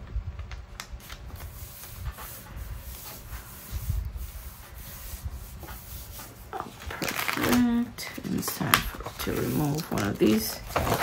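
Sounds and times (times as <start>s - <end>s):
paper being rubbed: 1.0s - 7.5s, 8.2s - 10.6s.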